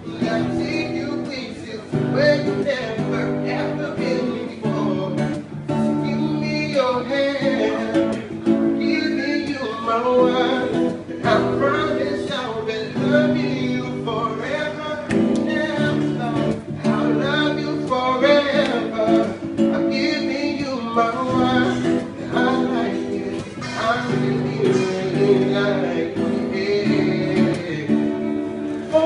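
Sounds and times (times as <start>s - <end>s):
acoustic guitar strumming: 0.0s - 29.0s
man singing: 0.0s - 29.0s.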